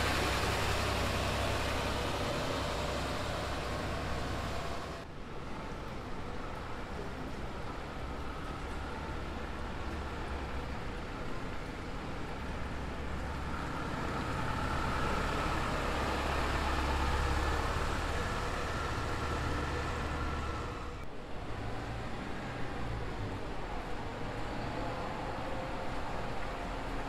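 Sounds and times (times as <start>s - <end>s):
bus engine passing: 0.0s - 27.0s.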